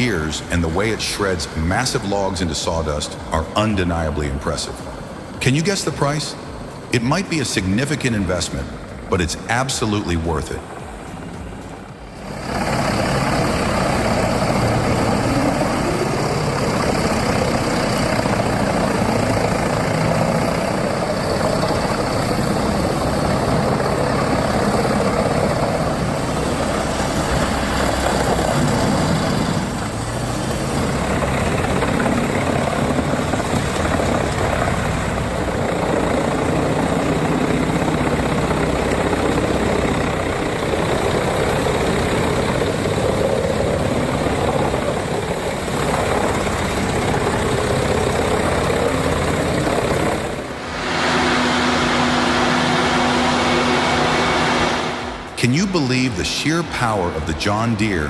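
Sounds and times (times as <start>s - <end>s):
diesel machinery running: 0.0s - 58.0s.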